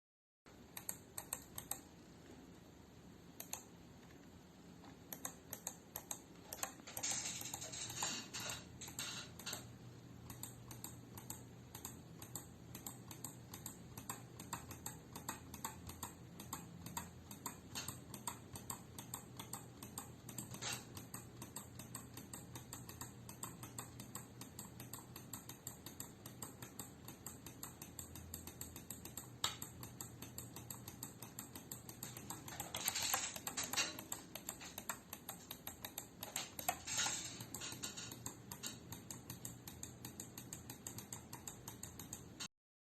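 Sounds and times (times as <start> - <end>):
mouse buttons clicking: 0.6 - 2.0, 3.4 - 4.2, 4.9 - 42.5.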